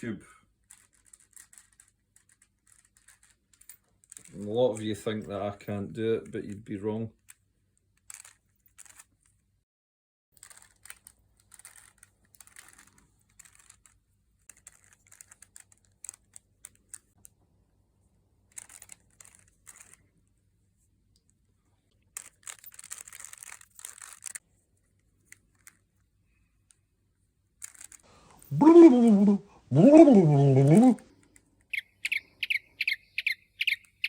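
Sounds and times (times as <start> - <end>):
puzzle cube plastic clicks: 0.5 - 5.0, 6.2 - 9.4, 10.4 - 17.4, 18.5 - 20.4, 21.2 - 26.9, 27.5 - 29.2, 30.3 - 34.0.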